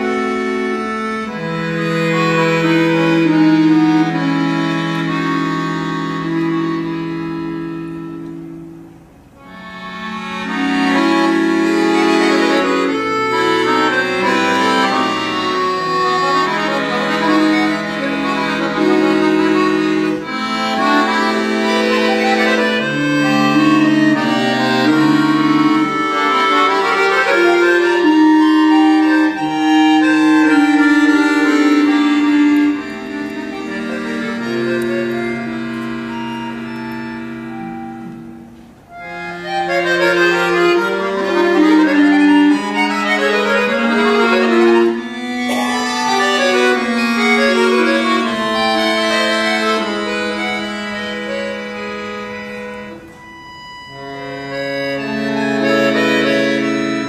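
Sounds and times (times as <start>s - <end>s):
accordion playing chords and melody: 0.0s - 57.0s.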